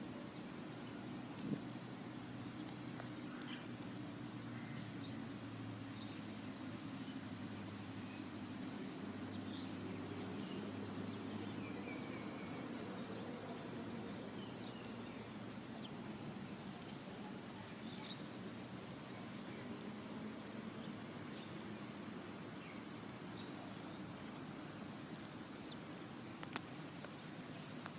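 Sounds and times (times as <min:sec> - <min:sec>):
small birds chirping: 0:00.2 - 0:27.9.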